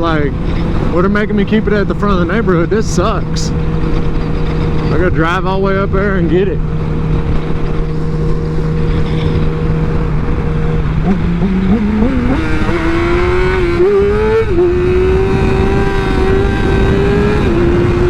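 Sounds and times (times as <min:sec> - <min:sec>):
motorcycle engine accelerating: 0:00.0 - 0:18.0
wind buffeting microphone: 0:00.0 - 0:18.0.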